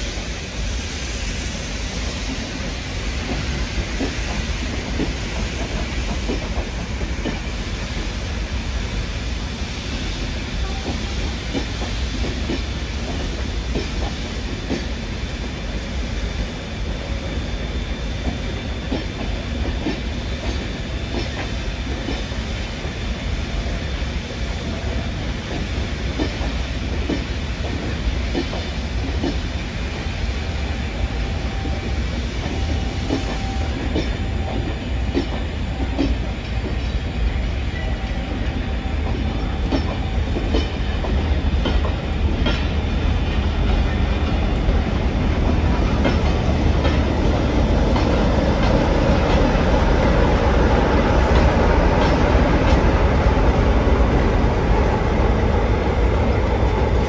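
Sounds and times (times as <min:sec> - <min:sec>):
train rumbling slowly: 0:00.0 - 0:57.0.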